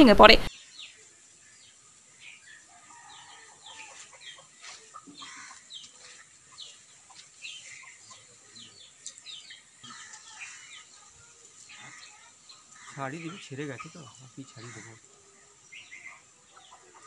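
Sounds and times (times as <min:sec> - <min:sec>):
faint birds chirping: 0:00.2 - 0:17.0.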